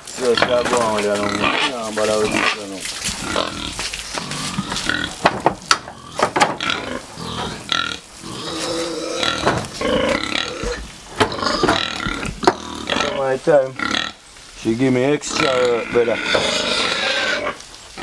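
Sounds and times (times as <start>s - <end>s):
pigs grunting: 0.0s - 14.2s, 15.1s - 18.0s.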